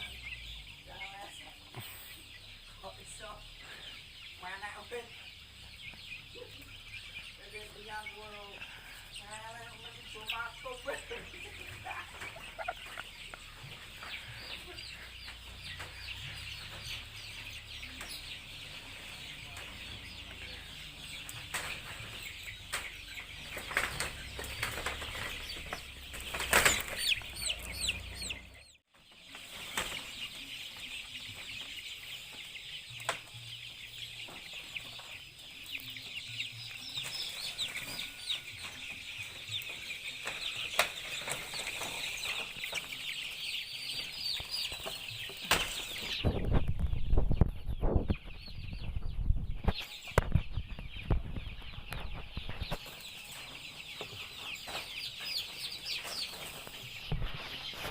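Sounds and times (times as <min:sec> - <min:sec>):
chickens peeping and clucking: 0:00.0 - 0:57.9.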